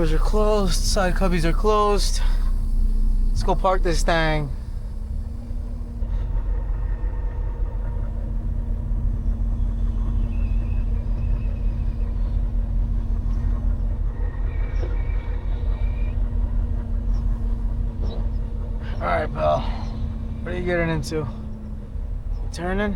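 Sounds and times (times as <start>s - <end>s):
truck diesel engine rumbling: 0.0s - 22.9s.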